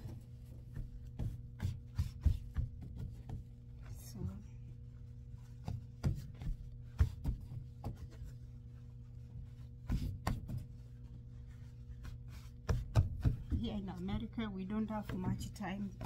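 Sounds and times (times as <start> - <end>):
laundromat machines humming: 0.0 - 16.0.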